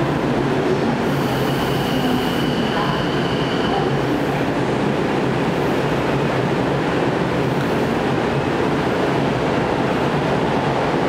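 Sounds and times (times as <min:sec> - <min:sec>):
electric train humming and hissing: 0:00.0 - 0:11.0.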